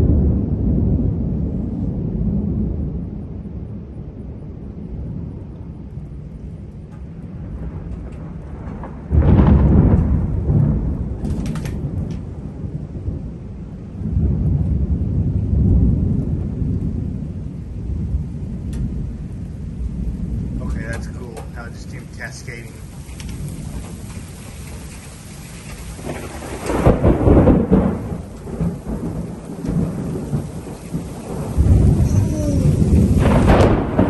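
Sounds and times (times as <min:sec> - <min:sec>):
loud thunder clap: 0:00.0 - 0:03.8, 0:07.0 - 0:34.0
thunder rumbling: 0:00.0 - 0:34.0.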